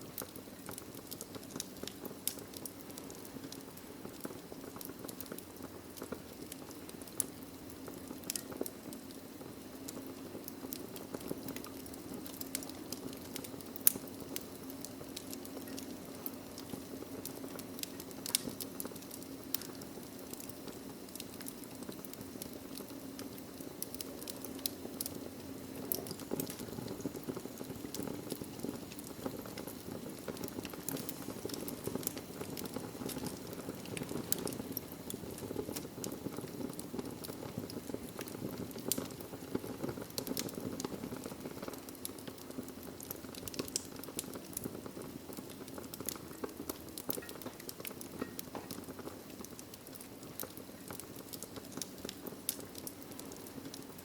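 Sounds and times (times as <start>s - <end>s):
logs crackling and popping: 0.0s - 54.0s
low rush of flame: 0.0s - 54.0s.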